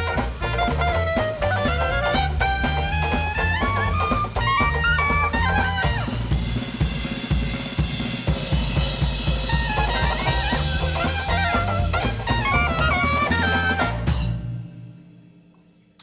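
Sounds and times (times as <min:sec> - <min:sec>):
walking bass: 0:00.0 - 0:14.8
jazz band playing: 0:00.0 - 0:14.9
drum kit break: 0:00.0 - 0:16.0.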